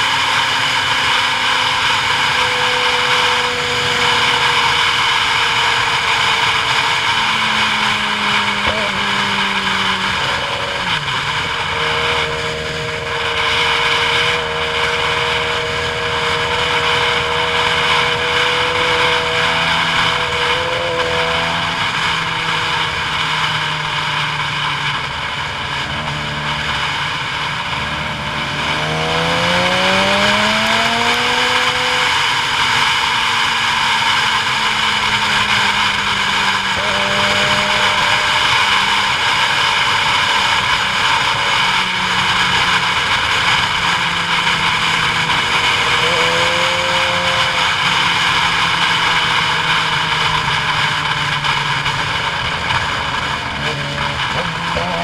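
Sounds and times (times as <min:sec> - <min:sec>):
steady rushing noise: 0:00.0 - 0:55.0
vehicle engine running: 0:00.0 - 0:55.0.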